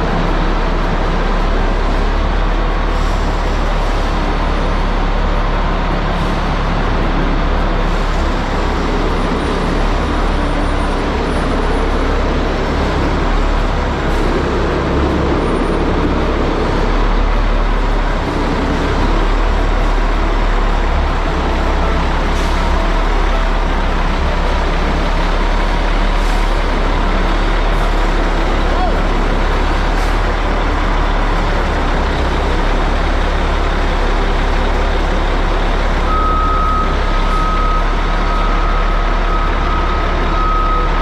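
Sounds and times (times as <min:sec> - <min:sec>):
diesel engine rumbling: 0:00.0 - 0:41.0.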